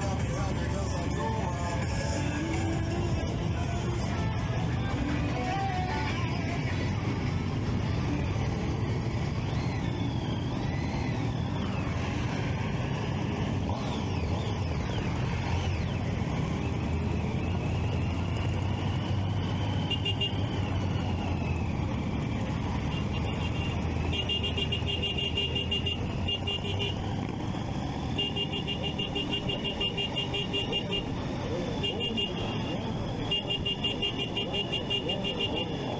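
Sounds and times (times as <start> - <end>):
motorcycle engines revving: 0.0 - 35.9.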